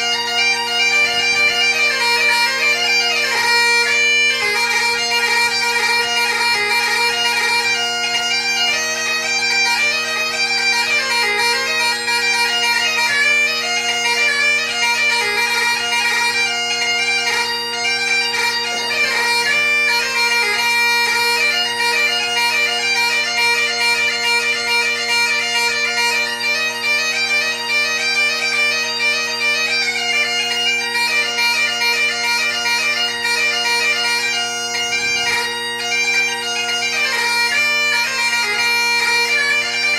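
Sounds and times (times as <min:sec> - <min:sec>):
bagpipe drones and melody: 0:00.0 - 0:39.9.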